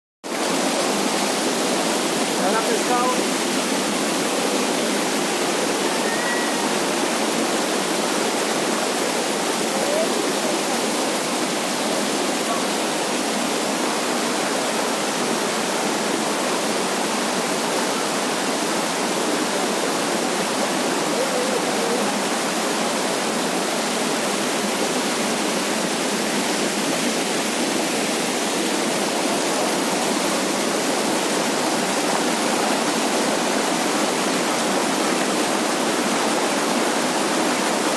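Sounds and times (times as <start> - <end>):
rushing water: 0.2 - 37.9.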